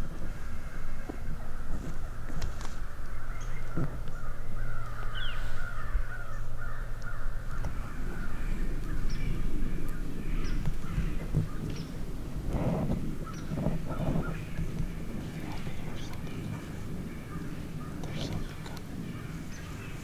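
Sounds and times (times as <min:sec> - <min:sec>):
animals calling in chorus: 0:00.0 - 0:20.0
steady low rumble: 0:00.0 - 0:20.0.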